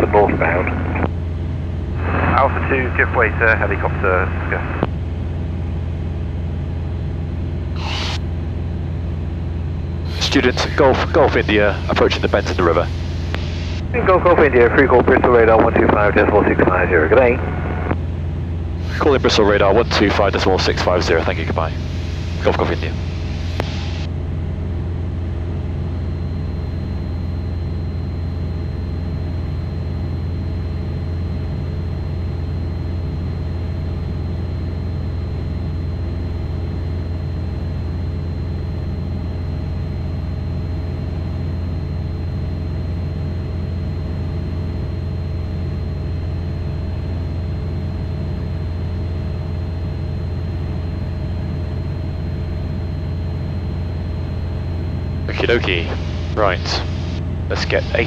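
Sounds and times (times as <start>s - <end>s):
high-pitched whine: 0.0s - 4.9s, 6.0s - 58.0s
light aircraft engine drone: 0.0s - 58.0s.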